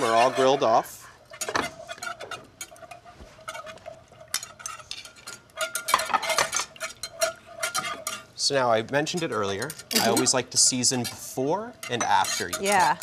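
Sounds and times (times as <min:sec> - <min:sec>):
whisk scraping steel saucepan: 0:00.0 - 0:13.0.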